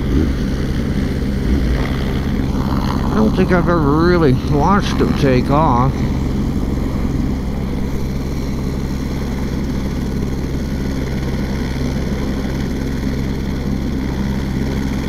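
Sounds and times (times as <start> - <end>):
helicopter engine drone: 0.0 - 15.0
motorcycle idling: 0.0 - 15.0.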